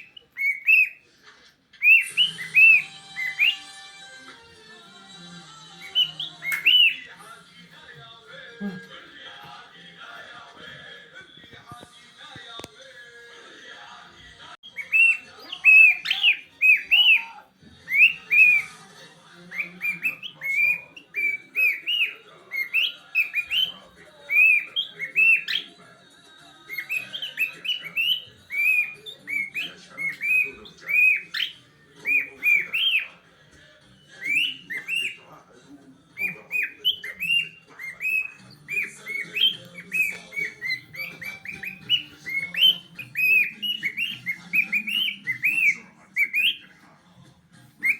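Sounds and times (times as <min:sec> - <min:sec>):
songbird singing whistled chirps: 0:00.0 - 0:01.0, 0:01.7 - 0:09.8, 0:14.6 - 0:33.2, 0:33.9 - 0:35.4, 0:36.1 - 0:46.8, 0:47.6 - 0:47.9.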